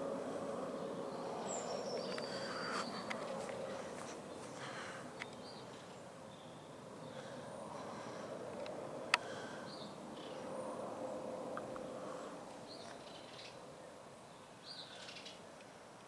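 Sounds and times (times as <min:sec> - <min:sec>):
small birds chirping: 0:00.0 - 0:10.5, 0:11.6 - 0:15.5
airliner engines rumbling overhead: 0:00.0 - 0:14.2.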